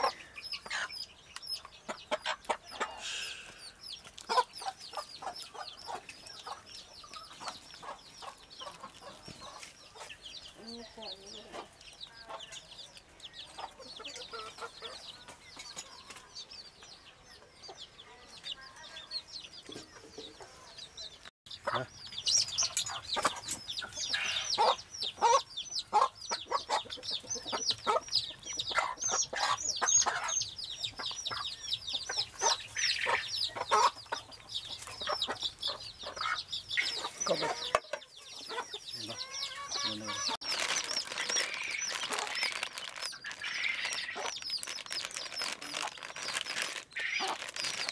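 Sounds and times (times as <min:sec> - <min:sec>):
chickens clucking and peeping: 0:00.0 - 0:47.9.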